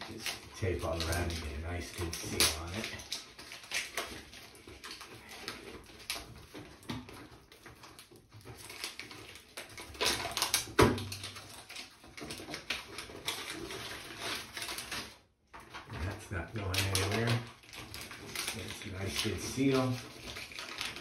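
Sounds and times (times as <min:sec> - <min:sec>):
foil crinkling and crackling: 0:00.0 - 0:21.0.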